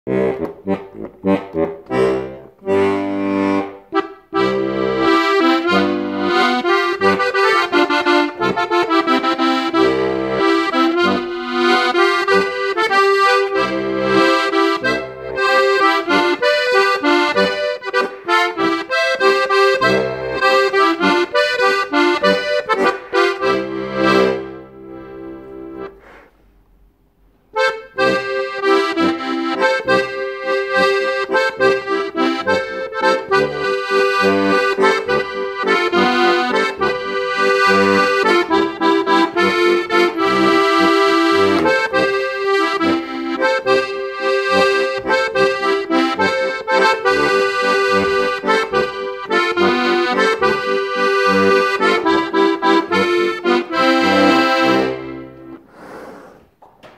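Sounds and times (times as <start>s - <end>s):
button accordion melody: 0.1s - 26.4s, 27.5s - 56.5s.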